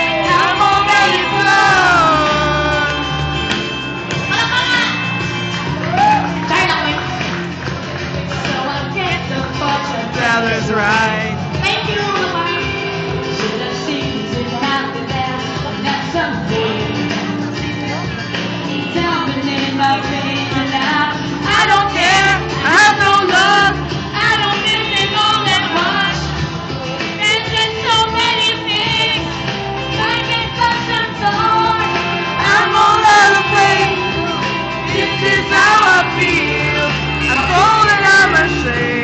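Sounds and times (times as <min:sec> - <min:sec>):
woman singing: 0:00.0 - 0:03.1, 0:08.4 - 0:29.2, 0:29.9 - 0:39.0
pop song on sound system: 0:00.0 - 0:39.0.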